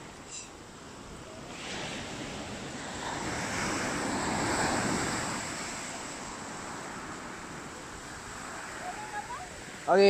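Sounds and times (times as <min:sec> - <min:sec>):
surf washing over pebbles: 0:00.8 - 0:10.0.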